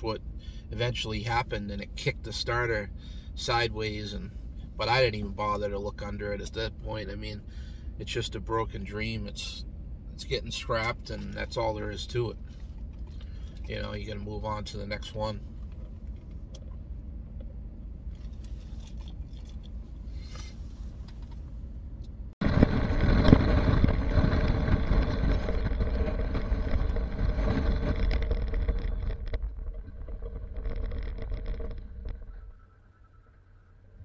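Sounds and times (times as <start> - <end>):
low rumble in truck cab: 0.0 - 34.0
wind and road noise: 0.0 - 34.0
truck engine running: 5.8 - 33.4.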